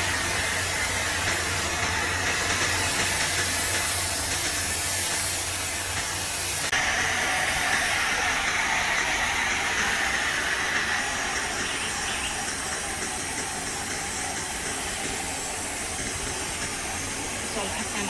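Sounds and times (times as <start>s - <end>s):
pressure washer spray hissing: 0.0s - 18.0s.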